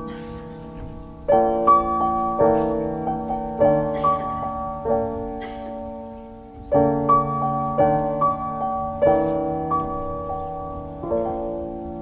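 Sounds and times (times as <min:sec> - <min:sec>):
jazz piano chords: 0:00.0 - 0:12.0.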